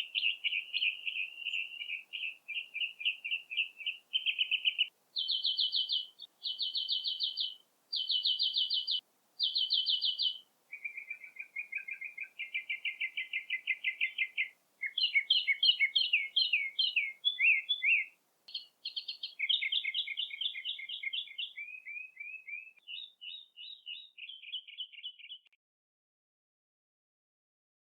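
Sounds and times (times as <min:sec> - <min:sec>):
songbird trilling song: 0:00.0 - 0:25.6.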